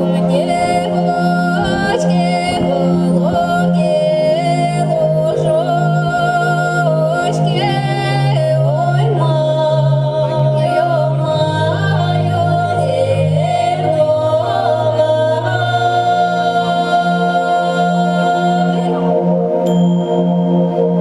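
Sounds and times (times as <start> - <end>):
person singing folk melody: 0.0 - 19.1
sustained drone accompaniment: 0.0 - 21.0.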